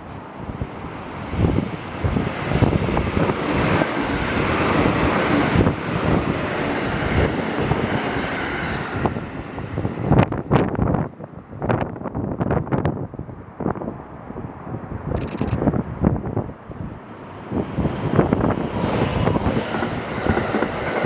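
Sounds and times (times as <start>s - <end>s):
train passing: 0.0s - 21.0s
wind buffeting microphone: 0.0s - 21.0s.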